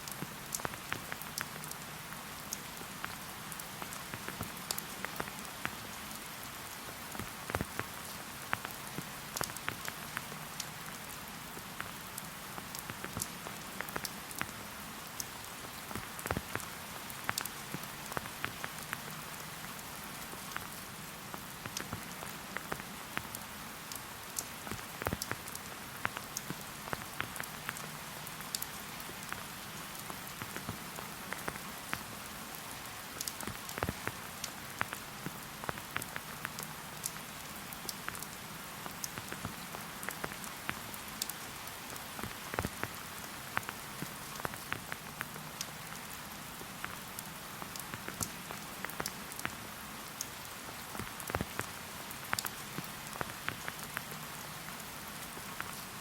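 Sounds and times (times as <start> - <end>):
raindrops ticking on leaves: 0.0 - 56.0
steady rain hiss: 0.0 - 56.0.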